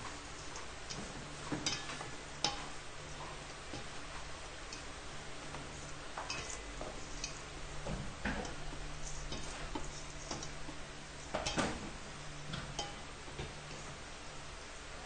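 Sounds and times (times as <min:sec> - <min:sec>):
hand mixing in metal bowl: 0:00.0 - 0:14.0
steady low hum: 0:00.0 - 0:15.0.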